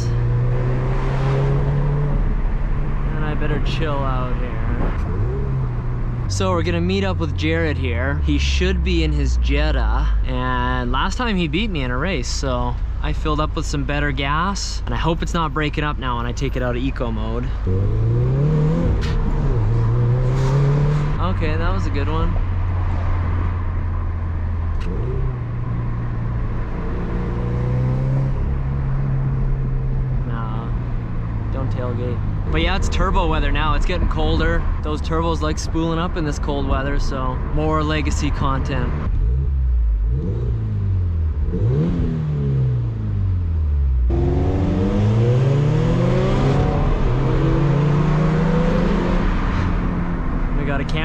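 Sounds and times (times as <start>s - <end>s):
car engine drone: 0.0s - 51.0s.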